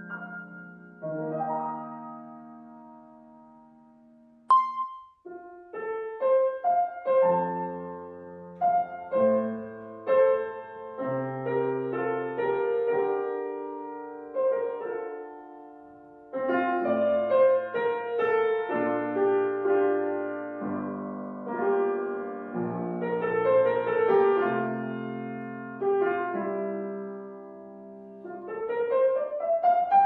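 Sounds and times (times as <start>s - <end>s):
solo piano melody: 0.0s - 30.0s.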